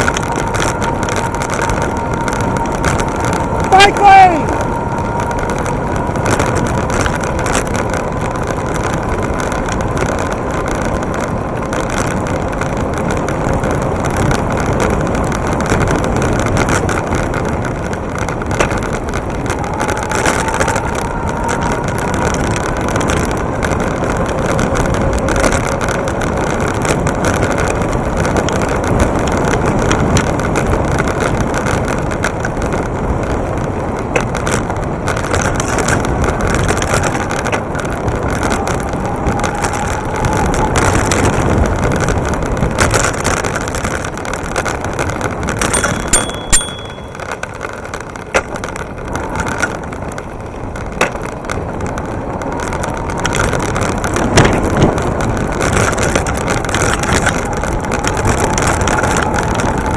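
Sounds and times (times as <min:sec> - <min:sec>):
bike rattling and knocking: 0:00.0 - 0:59.9
tyres on rough road: 0:00.0 - 0:59.9
wind noise: 0:00.0 - 0:59.9.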